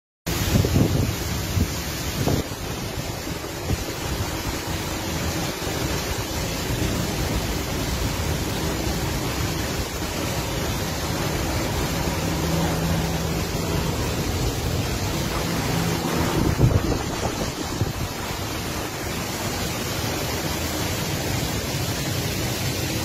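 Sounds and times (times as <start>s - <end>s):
steady rain: 0.3s - 23.0s
wind buffeting microphone: 0.4s - 22.8s.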